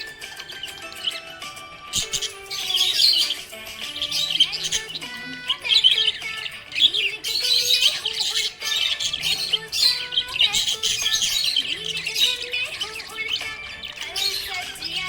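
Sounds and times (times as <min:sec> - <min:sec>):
background music: 0:00.0 - 0:15.0
parrots chirping and twittering: 0:00.0 - 0:15.0.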